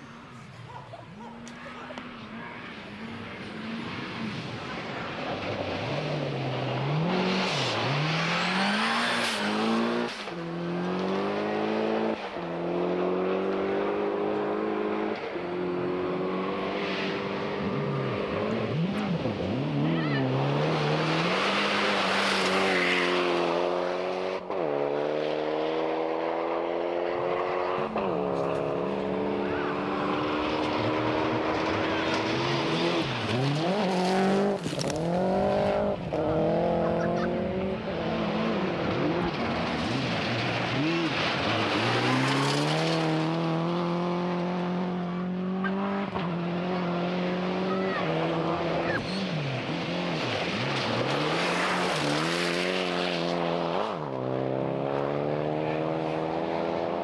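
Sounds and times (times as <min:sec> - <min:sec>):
rally car engine revving: 0:01.4 - 0:57.0.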